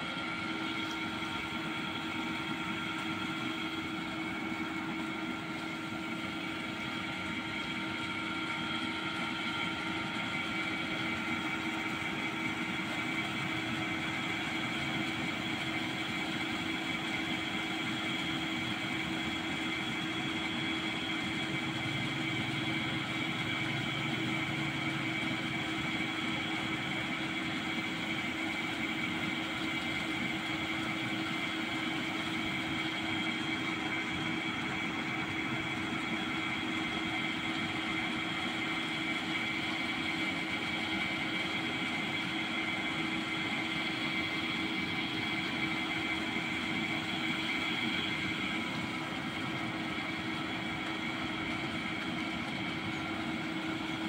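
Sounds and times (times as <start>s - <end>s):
pump motor humming: 0.0s - 54.0s
water gushing into a tank: 0.0s - 54.0s.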